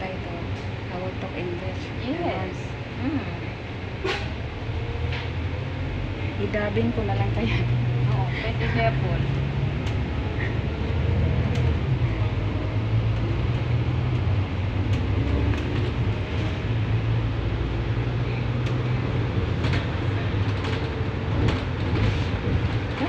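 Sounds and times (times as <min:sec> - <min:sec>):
bus engine drone: 0:00.0 - 0:23.0
tyre and road noise: 0:00.0 - 0:23.0.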